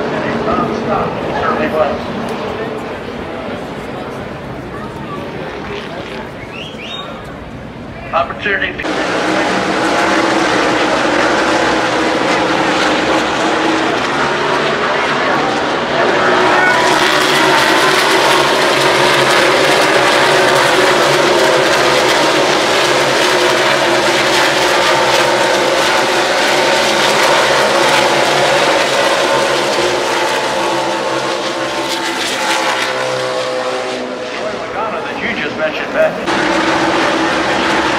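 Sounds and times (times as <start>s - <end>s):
race car engines passing: 0.0s - 37.9s.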